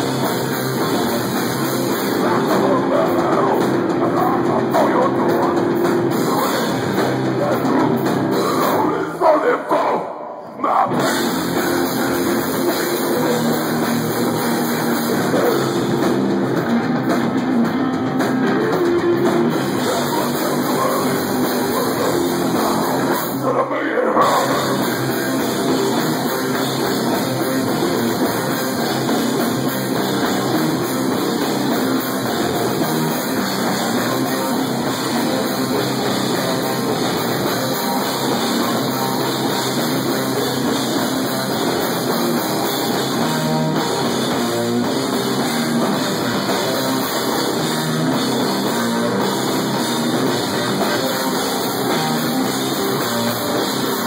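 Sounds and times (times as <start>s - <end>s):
rock drum kit: 0.0s - 9.8s, 10.9s - 54.0s
distorted electric guitar: 0.0s - 54.0s.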